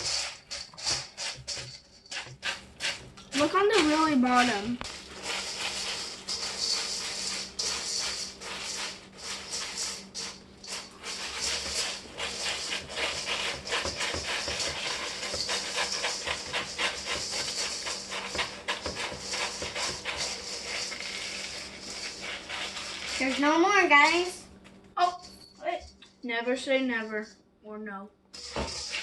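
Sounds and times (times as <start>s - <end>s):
dry cereal rattling in a bowl: 0.0s - 26.0s, 28.4s - 29.0s.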